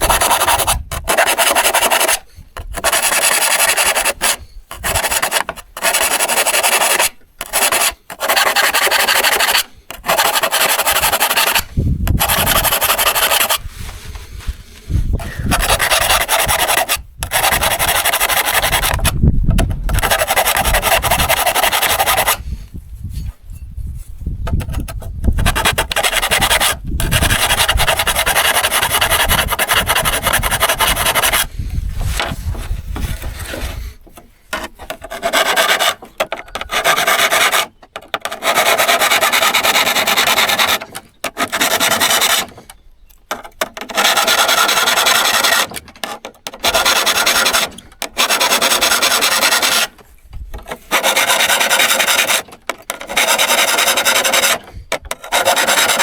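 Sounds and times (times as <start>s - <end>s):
rasping strokes on saw blade: 0.0s - 22.6s, 24.5s - 56.0s.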